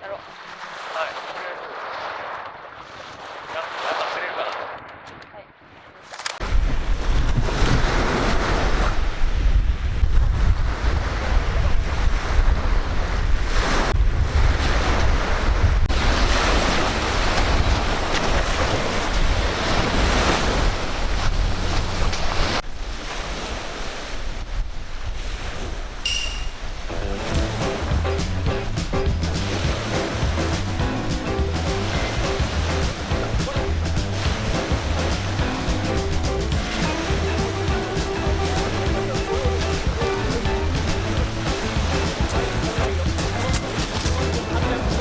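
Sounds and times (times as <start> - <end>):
surf breaking on shore: 0.0 - 4.8, 6.4 - 45.0
strong wind buffeting microphone: 6.4 - 45.0.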